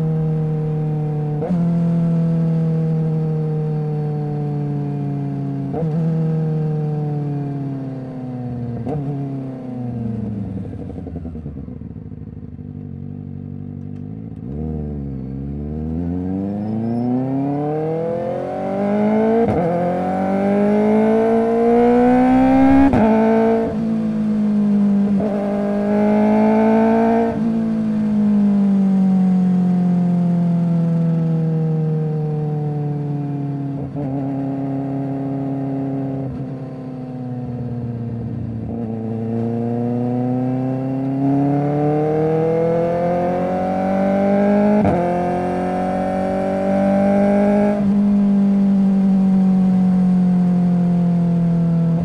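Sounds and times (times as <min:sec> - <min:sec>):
motorcycle engine revving: 0:08.5 - 0:52.0.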